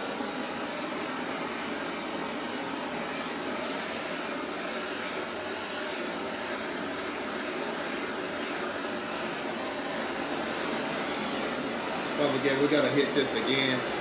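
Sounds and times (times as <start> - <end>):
gas torch hissing: 0.0 - 14.0.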